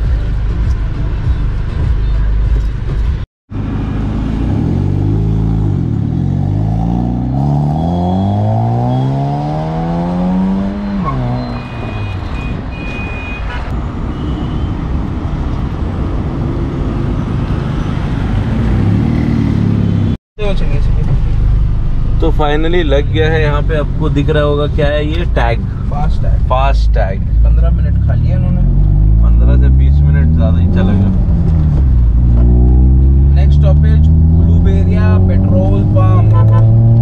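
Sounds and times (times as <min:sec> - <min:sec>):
road noise: 0:00.0 - 0:37.0
car engine accelerating: 0:03.5 - 0:12.1, 0:15.7 - 0:37.0.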